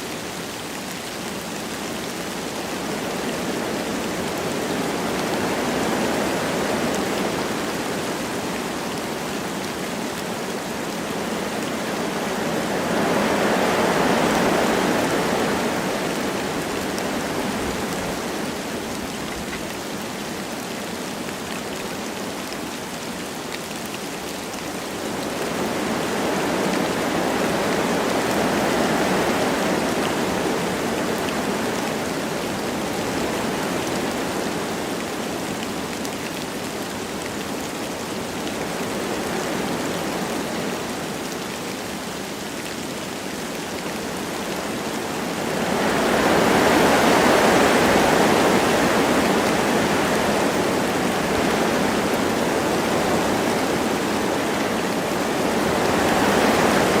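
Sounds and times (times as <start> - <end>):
light rain falling: 0.0 - 57.0
wind through forest trees: 0.0 - 57.0.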